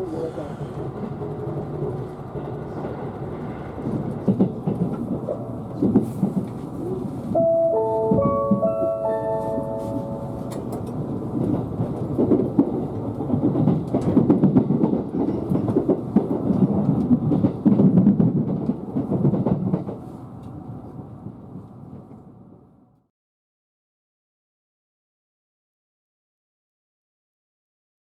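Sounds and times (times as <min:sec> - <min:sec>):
train running rumble: 0:00.0 - 0:22.5.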